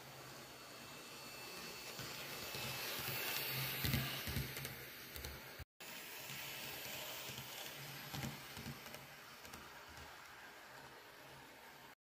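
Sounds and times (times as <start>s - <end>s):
model train motor hum: 0.0s - 11.9s.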